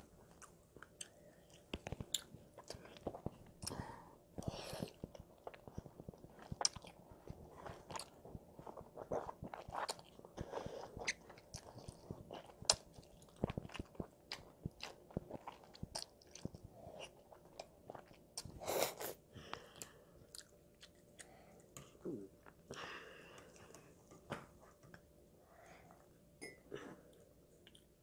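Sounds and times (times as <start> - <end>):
child chewing and slurping noodles: 0.1 - 24.0.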